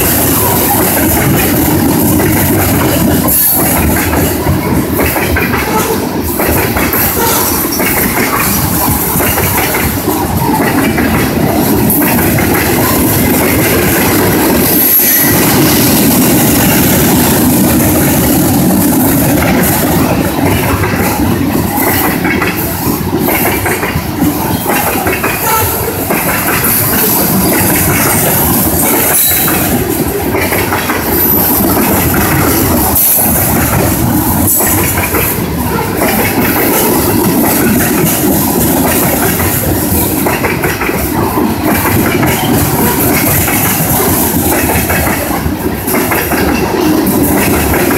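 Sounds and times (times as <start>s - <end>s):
steel wheels rumbling on rail: 0.0s - 47.9s
wheels clacking over rail joints: 0.0s - 47.9s.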